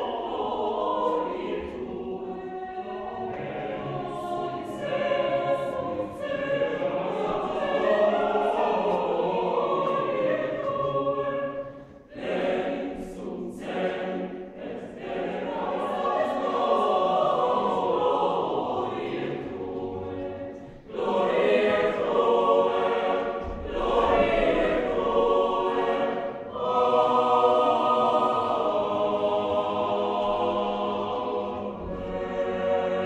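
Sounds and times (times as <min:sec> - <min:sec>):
children's choir singing: 0:00.0 - 0:33.0.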